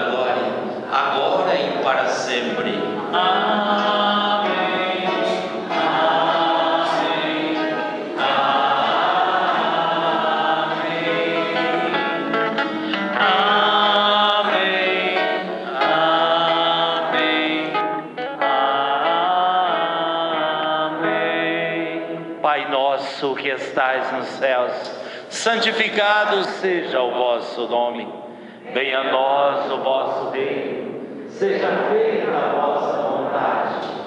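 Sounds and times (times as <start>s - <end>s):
choir and congregation chanting: 0.0s - 24.9s, 25.5s - 34.0s.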